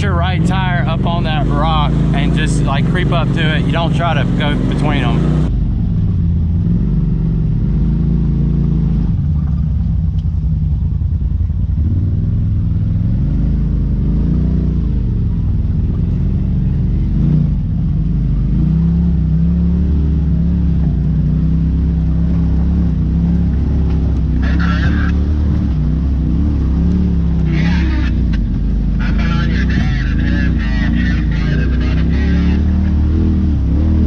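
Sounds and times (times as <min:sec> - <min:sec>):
engine running at low speed: 0:00.0 - 0:34.0.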